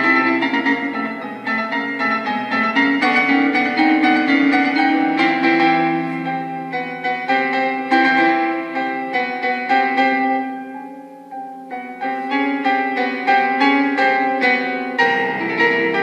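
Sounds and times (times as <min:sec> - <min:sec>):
solo grand piano: 0:00.0 - 0:16.0.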